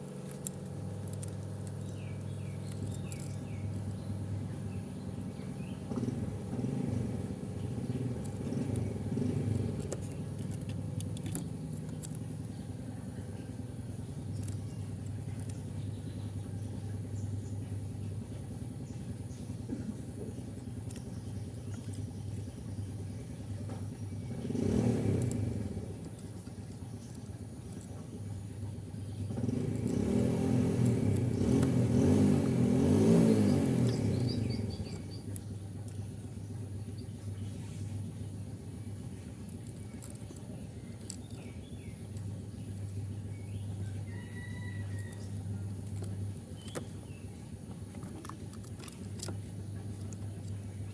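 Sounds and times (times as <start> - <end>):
low engine hum: 0.0 - 50.9.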